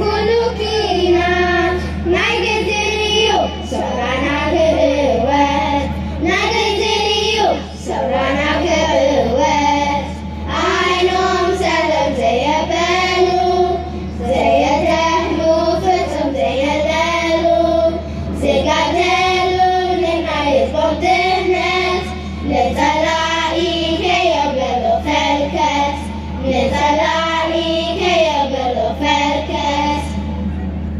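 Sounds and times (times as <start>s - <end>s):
children's choir singing: 0.0s - 30.3s
steady low hum: 0.0s - 30.9s.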